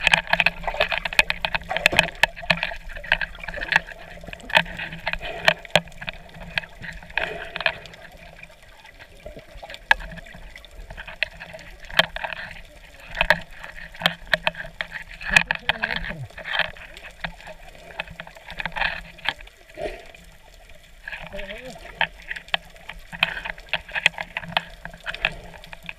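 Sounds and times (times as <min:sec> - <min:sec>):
underwater clicks and crackles: 0:00.0 - 0:25.9
water sloshing and gurgling: 0:00.0 - 0:25.9.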